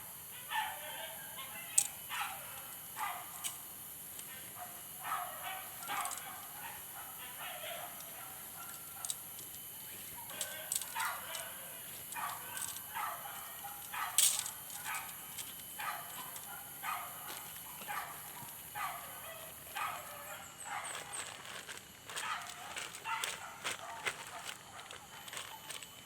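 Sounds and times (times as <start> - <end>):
dog barking: 0.3 - 3.6, 4.3 - 9.3, 9.9 - 21.2, 22.1 - 25.8.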